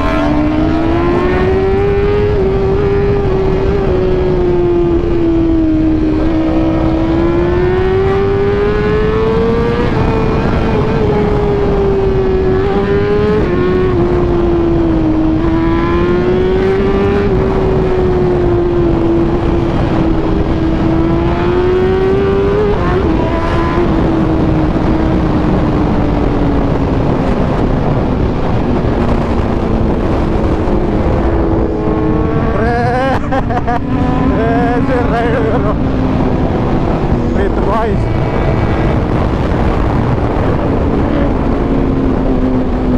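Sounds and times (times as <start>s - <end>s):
motorcycle engine running hard: 0.0s - 42.9s.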